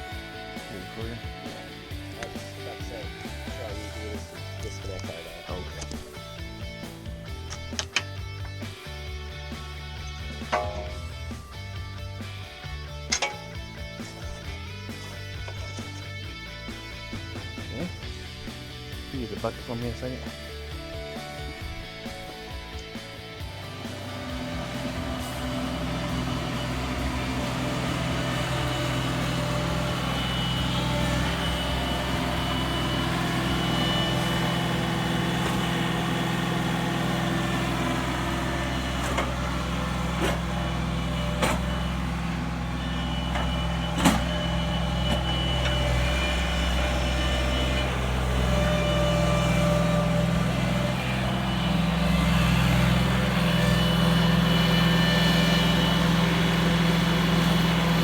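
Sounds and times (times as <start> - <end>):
skid steer engine running: 0.0 - 58.0.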